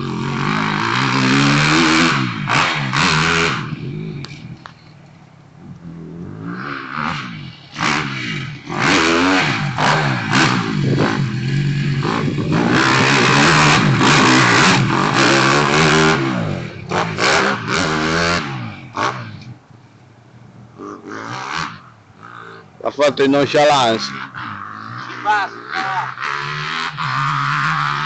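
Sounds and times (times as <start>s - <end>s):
dirt bike engine revving: 0.0s - 4.6s, 5.8s - 19.6s, 20.8s - 22.6s, 23.2s - 28.0s.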